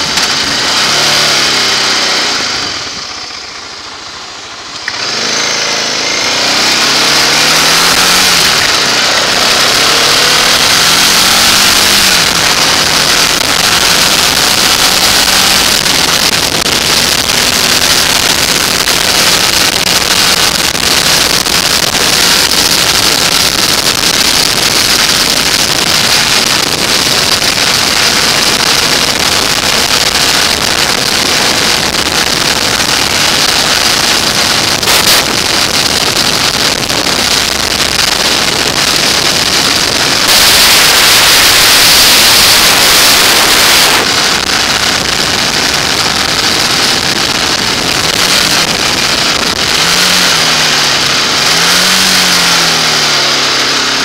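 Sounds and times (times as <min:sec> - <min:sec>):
motorcycle engine: 0:00.0 - 0:54.0
wind noise on microphone: 0:05.1 - 0:54.0.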